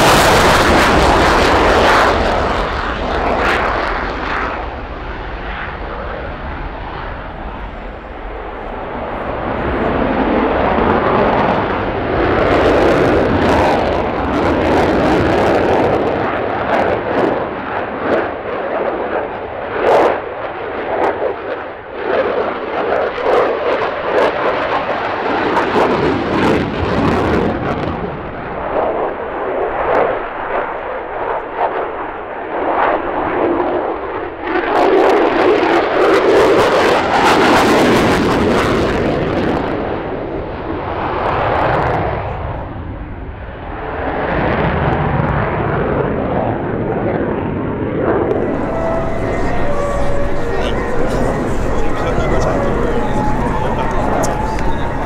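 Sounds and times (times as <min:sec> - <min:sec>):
jet engine roaring overhead: 0:00.0 - 0:55.0.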